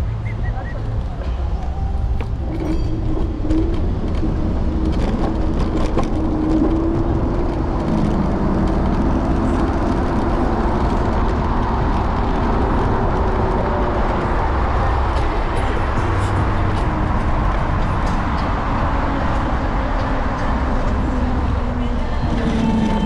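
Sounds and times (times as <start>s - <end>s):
low hum: 0.0s - 23.0s
road rumble: 0.0s - 23.0s
street traffic: 0.0s - 23.0s.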